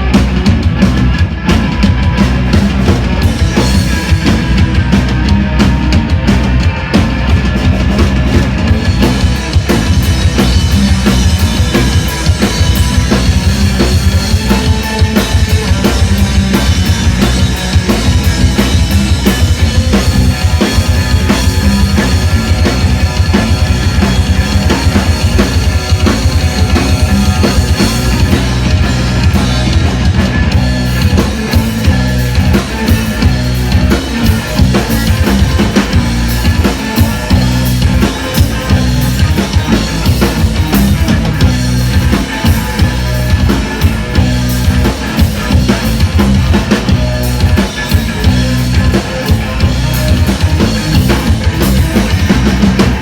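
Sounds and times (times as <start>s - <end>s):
drumming: 0.0s - 53.0s
live rock band playing: 0.0s - 53.0s.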